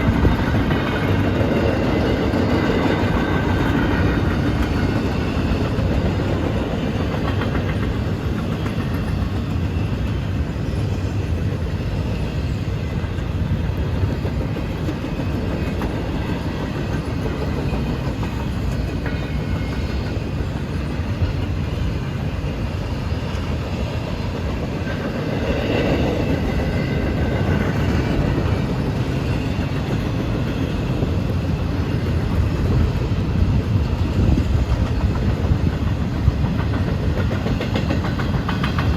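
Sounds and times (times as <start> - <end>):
train wheels on rail: 0.0 - 38.9.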